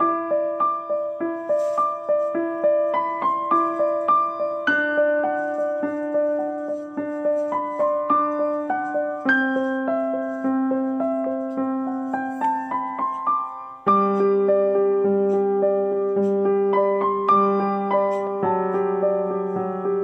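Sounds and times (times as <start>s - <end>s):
slow piano melody: 0.0s - 20.0s.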